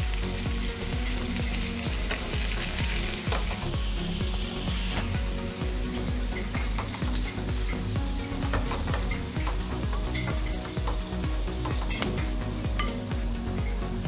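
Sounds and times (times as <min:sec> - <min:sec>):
potatoes sizzling in oil: 0:00.0 - 0:14.0.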